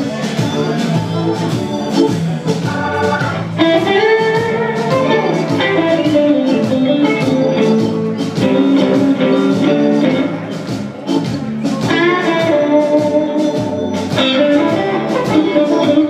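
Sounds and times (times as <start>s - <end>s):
electric guitar solo: 0.0s - 16.0s
organ bass and drums: 0.0s - 16.0s.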